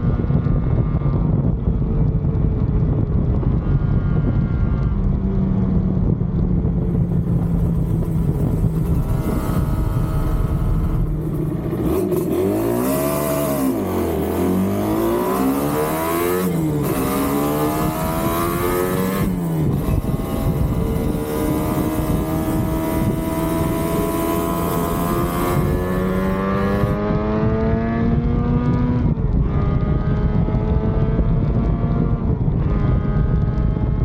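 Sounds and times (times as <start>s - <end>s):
two-stroke motorcycle engine accelerating: 0.0s - 34.0s
wind noise: 0.0s - 34.0s.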